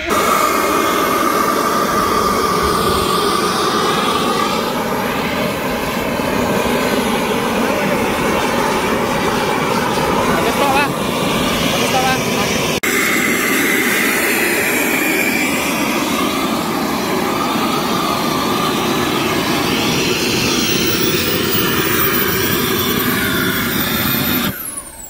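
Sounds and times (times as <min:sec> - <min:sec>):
high turbine whine: 0:00.0 - 0:25.0
jet engine idling rush: 0:00.0 - 0:25.0.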